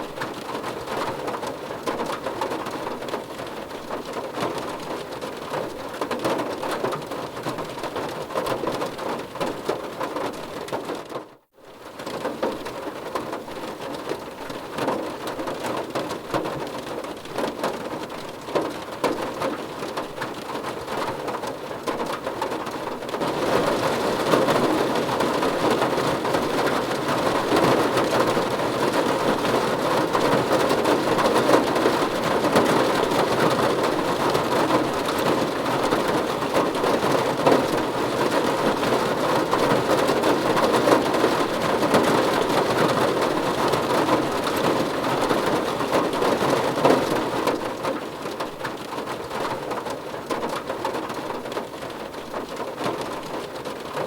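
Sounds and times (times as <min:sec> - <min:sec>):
rain drumming on car roof: 0:00.0 - 0:54.0.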